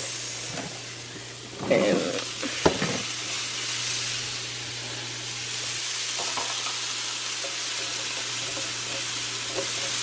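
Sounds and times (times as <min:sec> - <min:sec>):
asparagus sizzling on griddle: 0:00.0 - 0:10.0.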